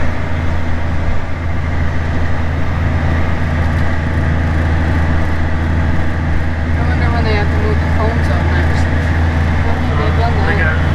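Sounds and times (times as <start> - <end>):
tractor engine running: 0.0 - 10.9.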